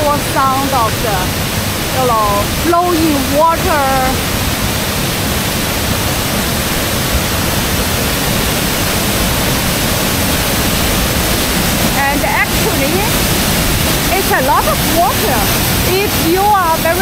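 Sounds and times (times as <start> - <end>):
waterfall crashing: 0.0 - 17.0.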